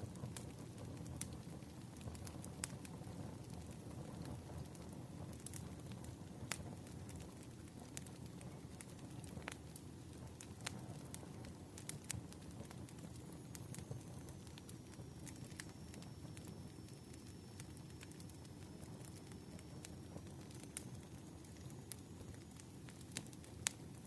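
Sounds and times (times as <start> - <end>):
fire pops and snaps: 0.0 - 24.0
low rumble of burning logs: 0.0 - 24.0.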